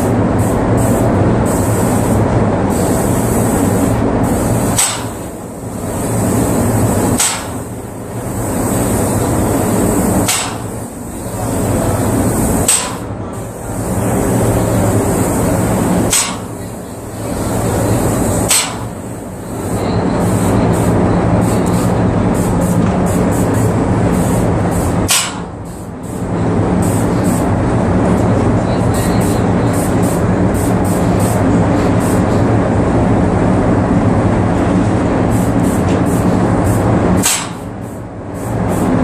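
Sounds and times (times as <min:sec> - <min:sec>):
paint sprayer hissing: 0:00.3 - 0:27.5, 0:29.0 - 0:32.4, 0:35.3 - 0:39.0.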